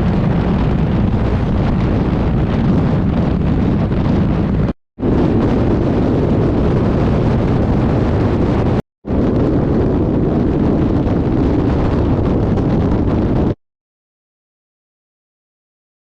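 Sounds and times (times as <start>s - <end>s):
motorcycle low rumble: 0.0s - 13.6s
wind buffeting microphone: 0.0s - 13.6s.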